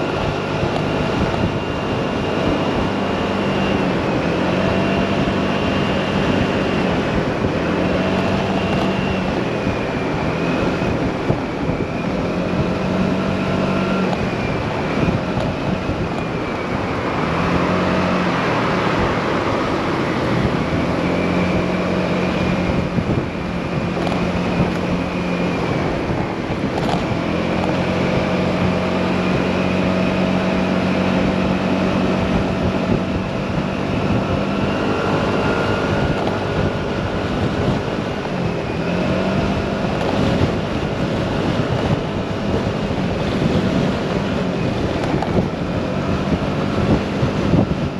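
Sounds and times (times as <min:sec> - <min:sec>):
motorcycle engine running: 0:00.0 - 0:47.9
wind rush on microphone: 0:00.0 - 0:47.9.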